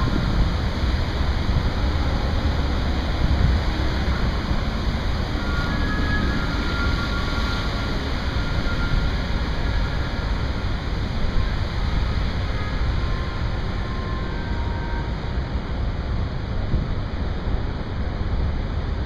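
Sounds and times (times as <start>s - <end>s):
road traffic passing: 0.0s - 18.7s
fountain water jets spraying: 0.0s - 19.0s.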